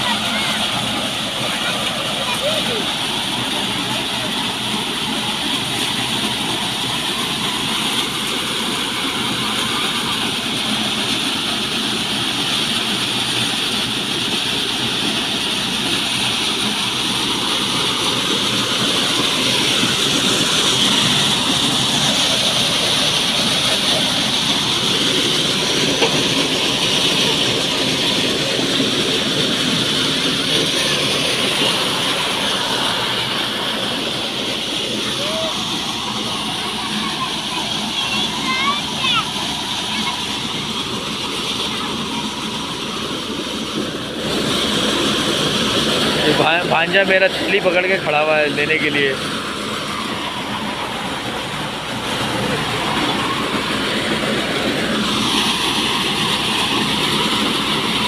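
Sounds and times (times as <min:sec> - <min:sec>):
maize thresher running: 0:00.0 - 0:58.0
tractor engine running: 0:00.0 - 0:58.0.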